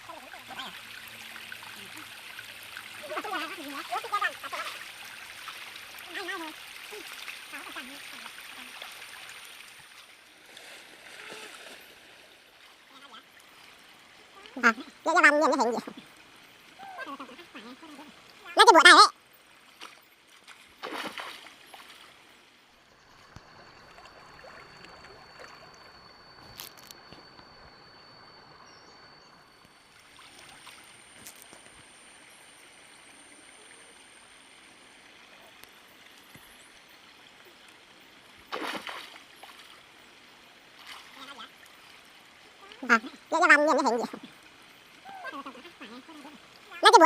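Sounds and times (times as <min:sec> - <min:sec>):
water sloshing and gurgling: 0:00.1 - 0:27.2, 0:29.5 - 0:31.8, 0:38.3 - 0:47.0.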